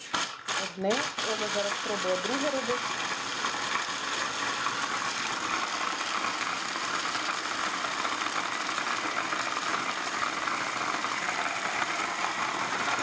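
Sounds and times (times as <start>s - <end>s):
electric hand blender chopping: 0.0s - 13.0s.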